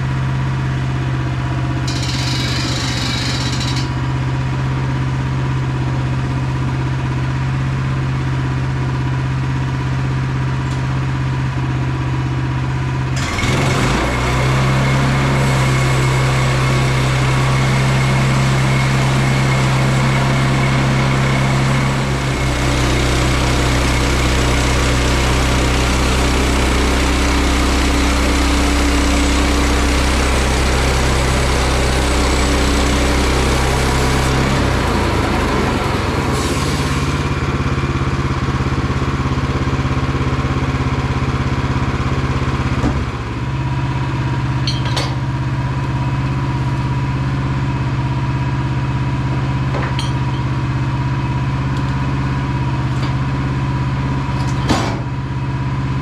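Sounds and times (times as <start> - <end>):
gas engine running: 0.0 - 56.0.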